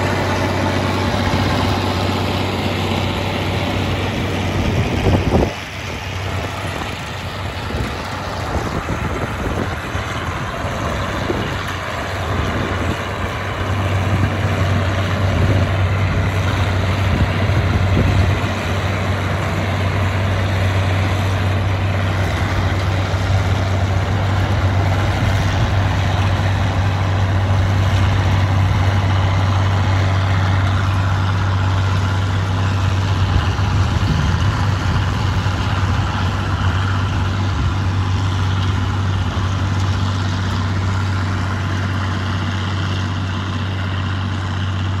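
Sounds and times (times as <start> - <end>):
mower cutter running: 0.0 - 45.0
tractor diesel engine running: 0.0 - 45.0.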